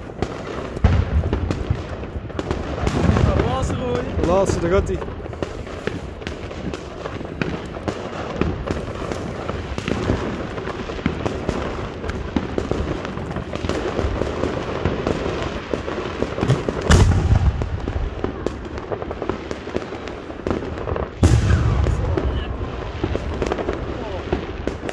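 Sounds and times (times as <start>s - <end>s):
deep firework boom: 0.0s - 24.9s
fireworks crackling and popping: 0.0s - 24.9s.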